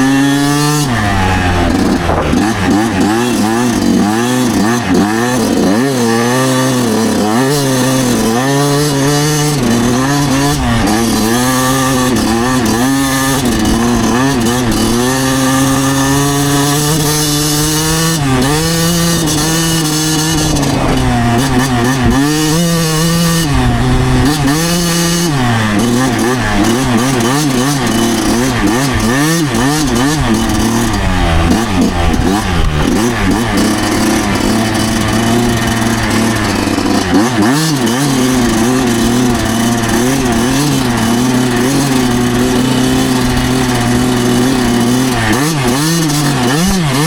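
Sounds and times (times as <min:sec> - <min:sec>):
two-stroke motorcycle engine revving: 0:00.0 - 0:47.0.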